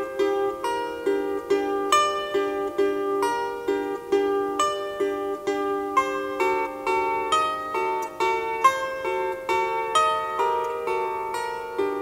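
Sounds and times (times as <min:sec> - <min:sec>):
lyre plucked: 0:00.0 - 0:12.0.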